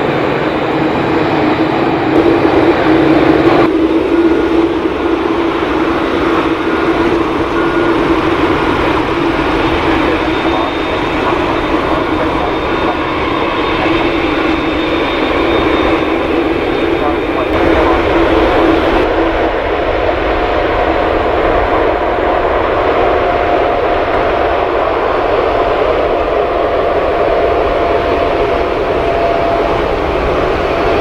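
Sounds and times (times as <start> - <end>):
jet engines running at taxi power: 0.0 - 31.0.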